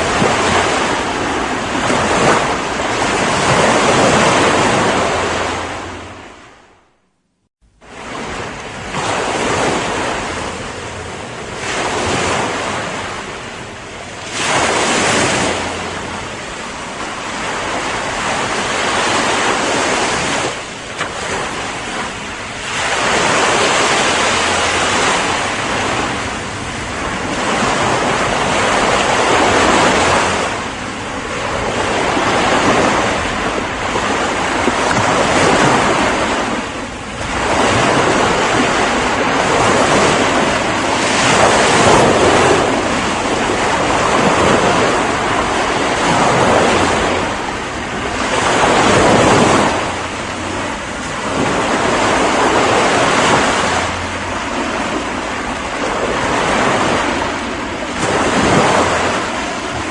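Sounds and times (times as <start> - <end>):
ocean waves breaking on shore: 0.0 - 7.0, 7.7 - 59.9.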